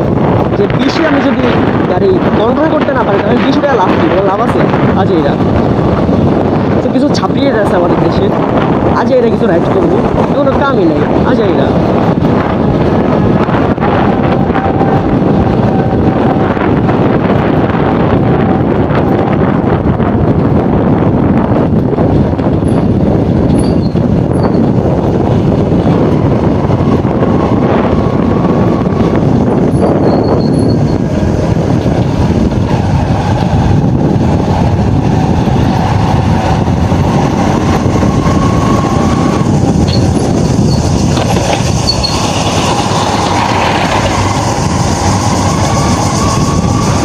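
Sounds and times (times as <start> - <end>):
wind and road noise: 0.0 - 47.0.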